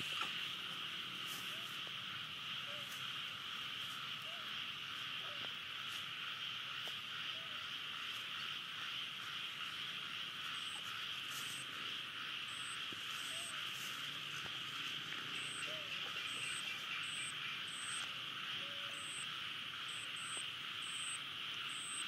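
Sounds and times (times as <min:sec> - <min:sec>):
wildlife chorus drone: 0:00.0 - 0:22.0.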